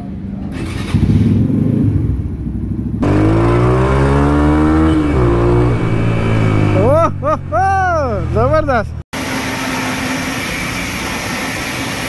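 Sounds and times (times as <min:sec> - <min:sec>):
motorcycle engine running: 0:00.2 - 0:10.6.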